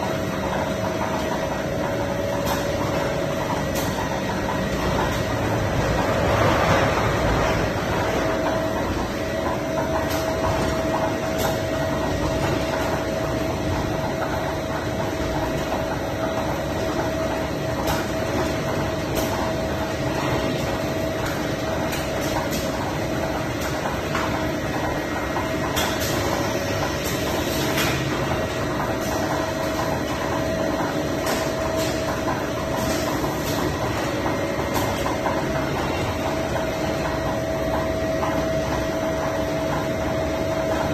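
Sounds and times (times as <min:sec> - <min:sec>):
production line machinery din: 0:00.0 - 0:40.9.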